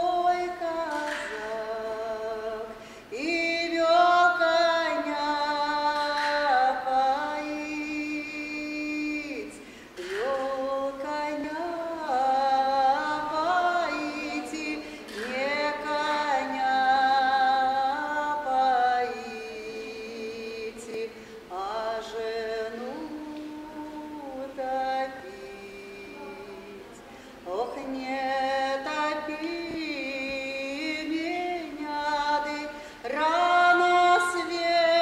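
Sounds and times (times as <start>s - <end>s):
woman singing unaccompanied: 0.0s - 35.0s.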